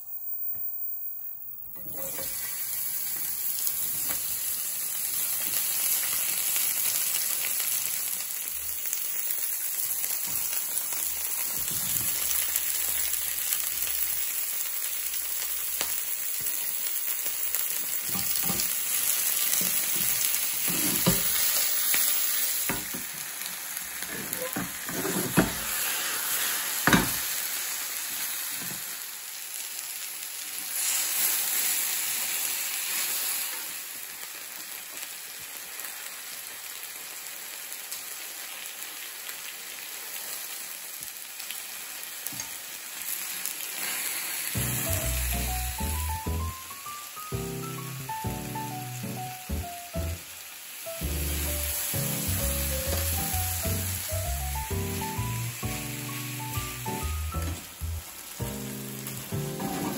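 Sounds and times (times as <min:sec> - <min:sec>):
vegetables sizzling in a frying pan: 0:01.8 - 0:59.9.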